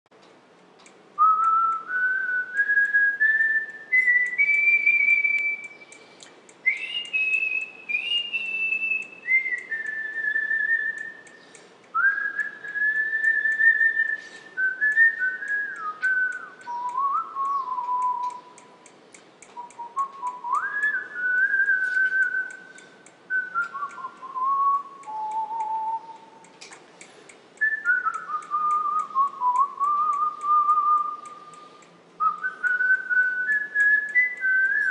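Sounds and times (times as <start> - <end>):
person whistling a tune: 1.2 - 6.0, 6.6 - 18.7, 19.6 - 26.4, 27.6 - 34.9.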